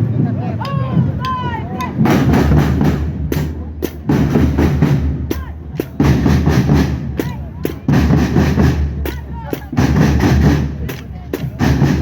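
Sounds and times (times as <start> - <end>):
marching band drums: 0.0 - 12.0.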